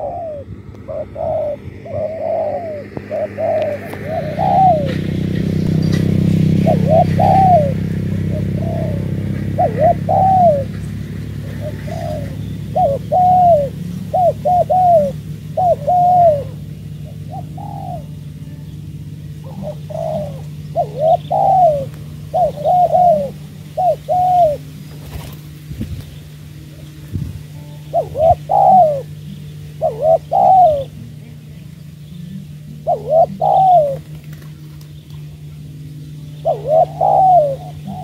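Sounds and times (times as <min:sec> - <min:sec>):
dove cooing: 0:00.0 - 0:38.0
low steady rumble: 0:00.0 - 0:38.0.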